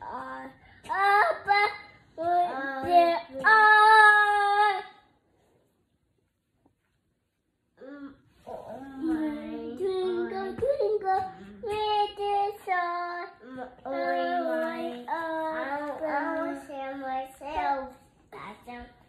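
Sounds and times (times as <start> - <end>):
toddler singing: 0.0 - 5.0, 8.4 - 19.0.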